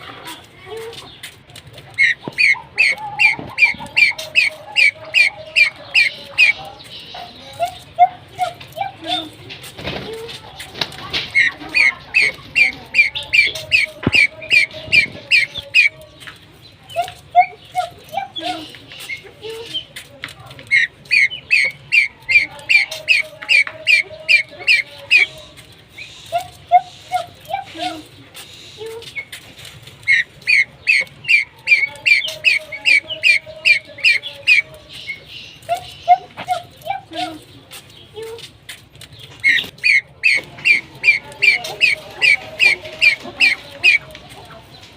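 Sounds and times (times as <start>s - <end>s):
bird squawking: 0.0s - 16.3s, 16.9s - 44.8s
pheasant calling: 0.0s - 44.9s.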